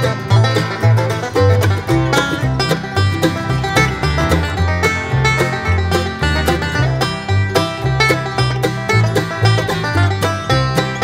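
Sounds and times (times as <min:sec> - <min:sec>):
bluegrass tune with banjo: 0:00.0 - 0:11.0
stepping bass line: 0:00.0 - 0:11.0.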